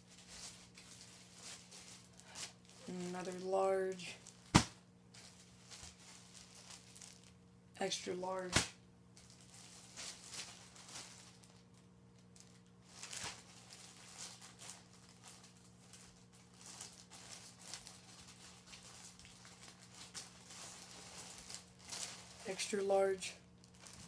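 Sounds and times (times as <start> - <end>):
plastic bags crinkling: 0.0 - 7.4, 8.4 - 24.0
low steady hum: 0.0 - 24.0.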